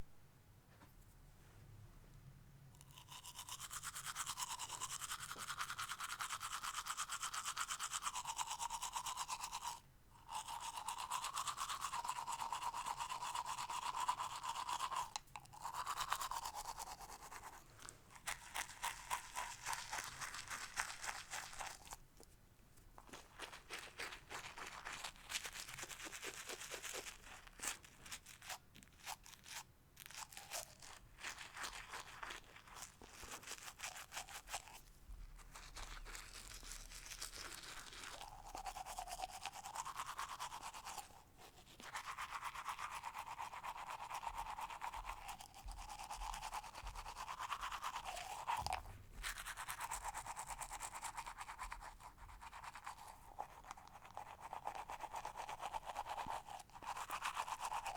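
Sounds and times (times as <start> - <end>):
toothbrush scrubbing teeth: 2.8 - 22.3, 23.0 - 57.9.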